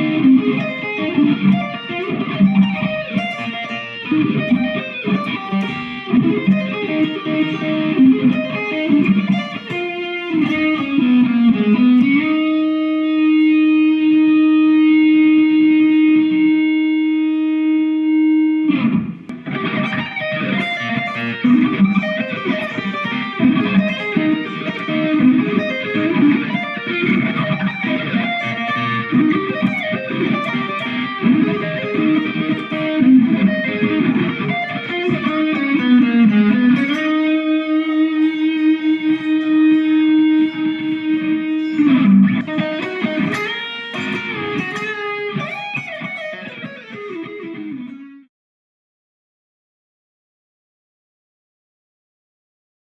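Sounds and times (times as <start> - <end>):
electric guitar playing fast lines: 0.0 - 48.2.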